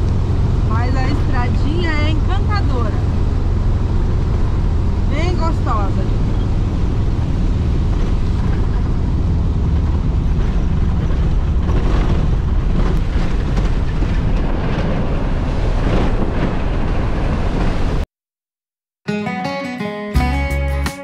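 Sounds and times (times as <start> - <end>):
van driving rumble: 0.0 - 18.0.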